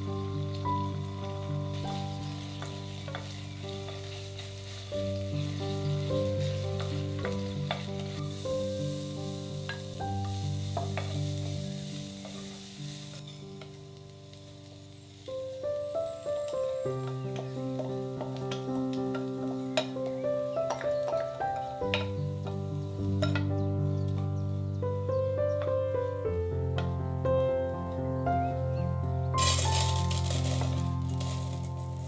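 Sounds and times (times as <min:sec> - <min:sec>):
fat sizzling in a pan: 0:00.0 - 0:24.6, 0:29.4 - 0:32.0
background music: 0:00.0 - 0:32.0.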